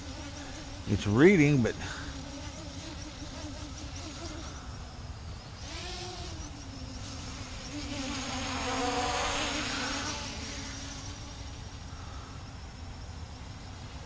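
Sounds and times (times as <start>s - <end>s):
quadcopter motors buzzing: 0.0s - 14.0s.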